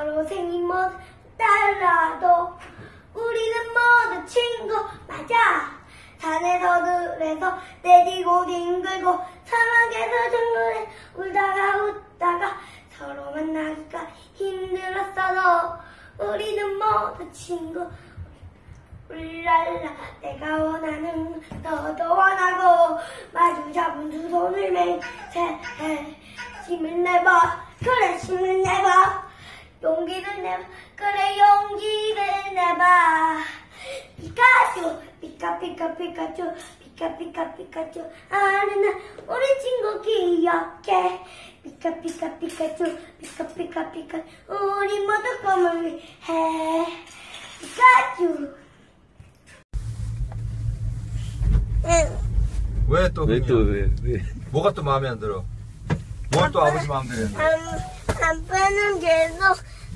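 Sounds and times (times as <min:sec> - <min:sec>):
young boy singing: 0:00.0 - 0:47.1, 0:56.4 - 0:59.9.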